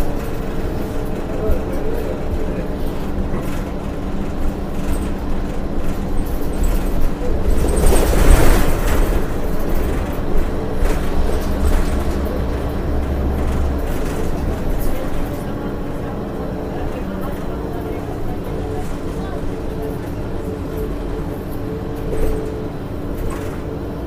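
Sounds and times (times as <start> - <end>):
bus diesel engine running: 0.0 - 24.0
road rumble: 0.0 - 24.0.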